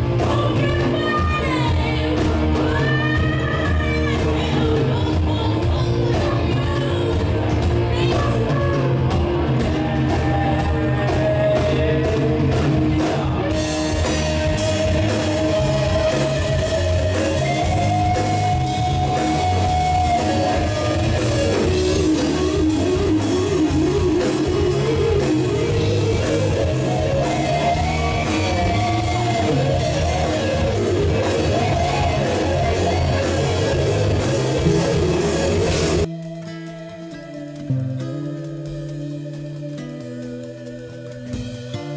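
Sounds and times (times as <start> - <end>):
live rock band playing: 0.0 - 41.9
person singing: 0.1 - 35.6.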